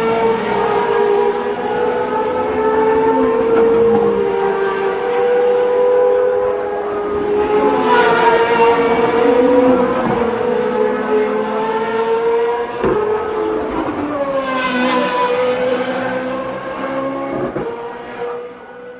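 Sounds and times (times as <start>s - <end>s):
race car engines at high revs: 0.0s - 18.9s
race cars passing by: 0.0s - 18.9s.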